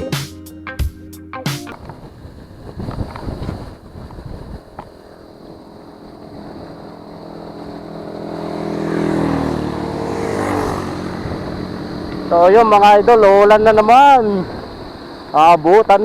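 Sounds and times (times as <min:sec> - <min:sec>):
vehicle engine running: 0:01.7 - 0:15.5
road noise: 0:01.7 - 0:16.0
wind noise: 0:01.7 - 0:16.0.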